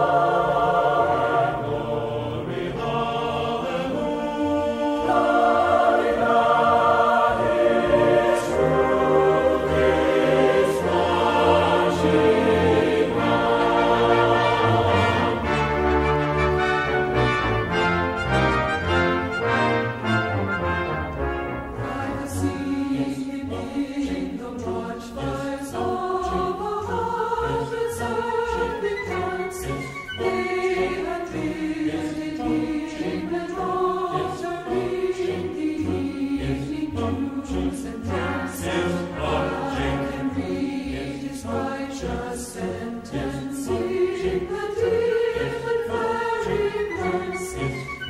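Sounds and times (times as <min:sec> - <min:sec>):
choir singing slow notes: 0:00.0 - 0:48.0.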